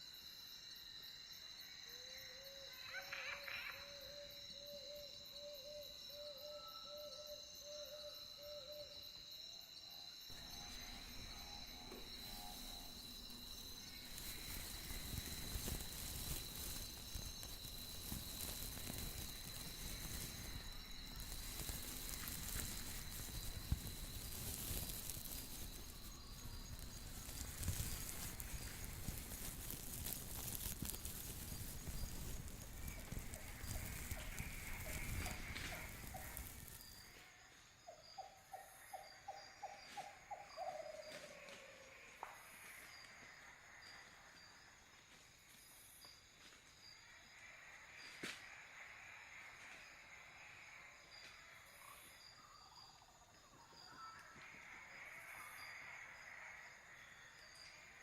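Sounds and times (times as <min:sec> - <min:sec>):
high insect trill: 0:00.0 - 0:58.0.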